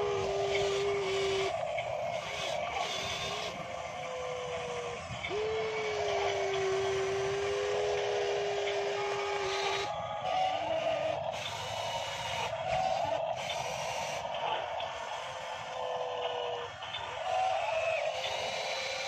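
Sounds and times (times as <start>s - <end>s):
model excavator motor whining: 0.0s - 19.0s
rough mechanical whirr: 0.0s - 19.0s.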